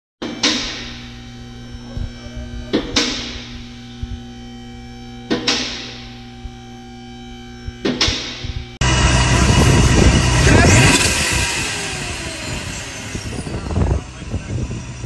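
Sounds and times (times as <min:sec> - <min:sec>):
hydraulic pump motor humming: 0:00.2 - 0:15.0.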